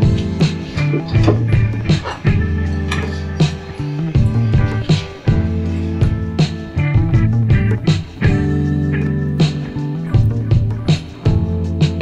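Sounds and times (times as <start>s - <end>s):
guitar music with drum beat: 0.0s - 12.0s.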